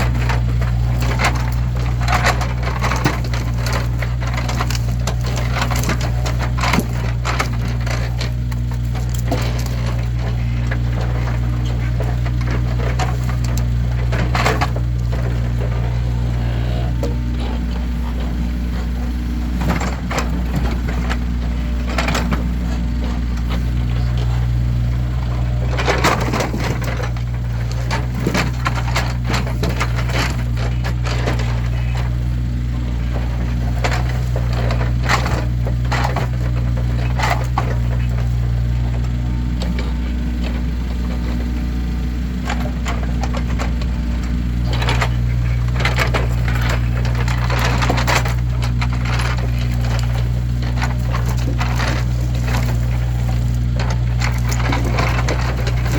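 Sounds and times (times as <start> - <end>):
firewood logs knocking: 0.0 - 55.9
steady low hum: 0.0 - 55.9.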